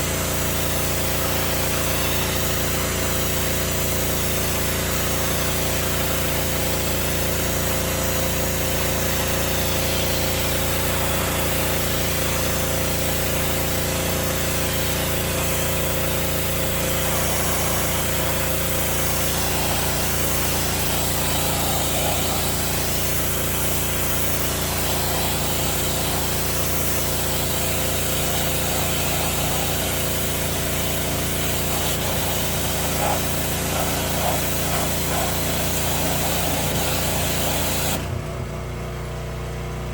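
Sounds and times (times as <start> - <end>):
water spray hissing: 0.0 - 38.1
pressure washer engine running: 0.0 - 39.9.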